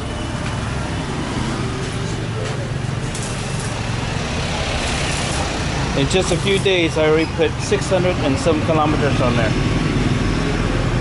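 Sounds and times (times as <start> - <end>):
street traffic: 0.0 - 11.0
vehicle engine humming: 0.0 - 11.0.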